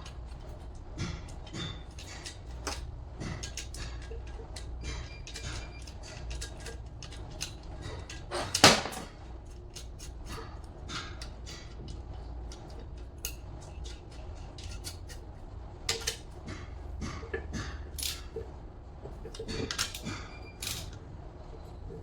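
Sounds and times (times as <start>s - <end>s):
tools and metal parts clicking: 0.0s - 22.0s.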